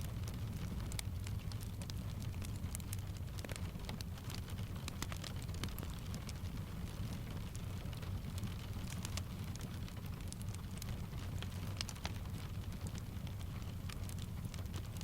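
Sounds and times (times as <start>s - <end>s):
constant low rumble: 0.0s - 15.0s
steady rain: 0.0s - 15.0s
wood fire crackling: 0.0s - 15.0s.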